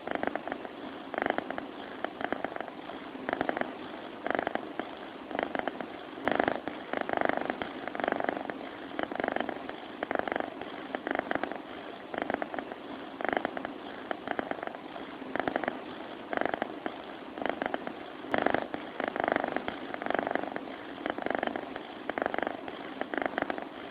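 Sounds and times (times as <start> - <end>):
cat purring: 0.0 - 23.9.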